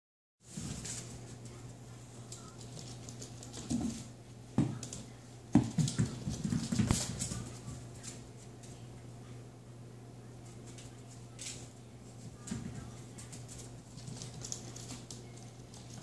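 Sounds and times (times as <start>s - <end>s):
paw patter and scuffling: 0.4s - 8.9s, 10.4s - 16.0s
steady low hum: 0.4s - 16.0s.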